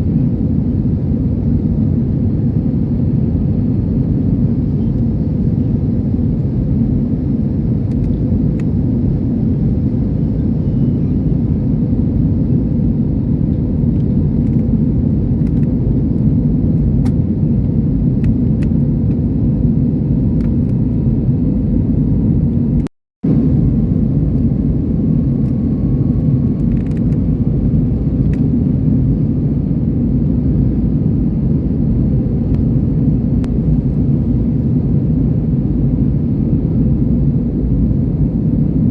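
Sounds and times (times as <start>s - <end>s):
airliner cabin roar: 0.0s - 38.9s.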